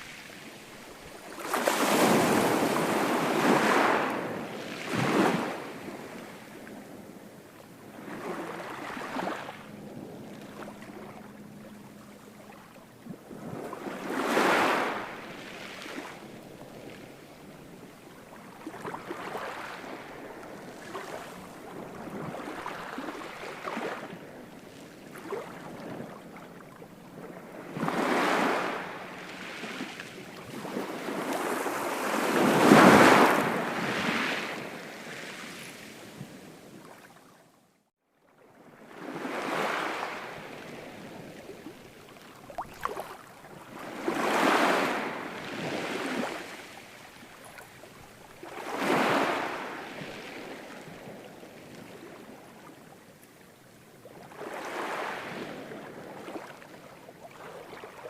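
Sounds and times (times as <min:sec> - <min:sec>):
ocean waves breaking: 0:00.0 - 0:37.0, 0:38.5 - 0:52.9.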